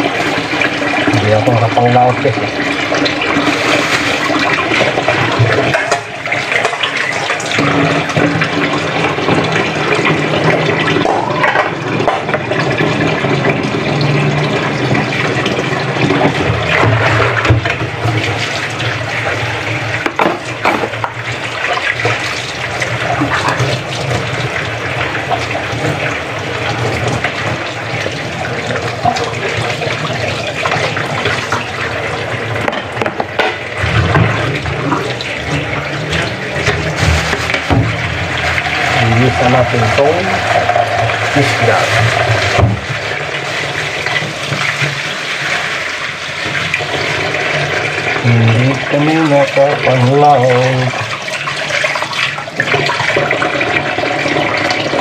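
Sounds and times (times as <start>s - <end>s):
tap water running into sink: 0.0s - 55.0s.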